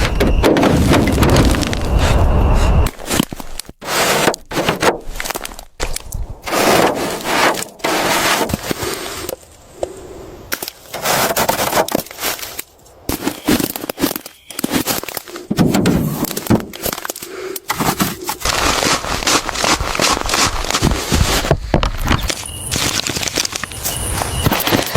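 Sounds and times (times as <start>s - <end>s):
scraping and crackling: 0.0s - 9.9s, 10.5s - 24.9s.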